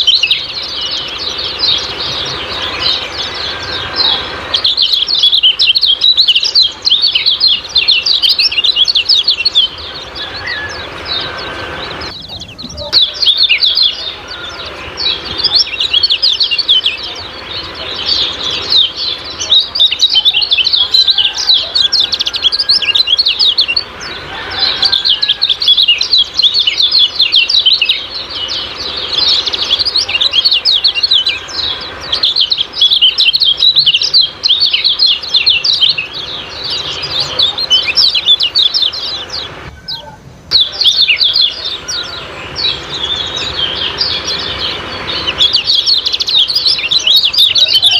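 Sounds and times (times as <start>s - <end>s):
songbird chattering high chirps: 0.0s - 47.9s.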